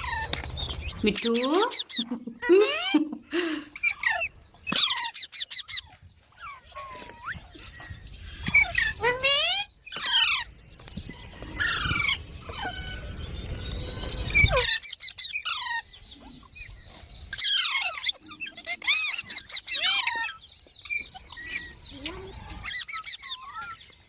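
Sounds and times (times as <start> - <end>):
parakeet shrill calls and chattering: 0.0 - 2.1, 3.8 - 24.0.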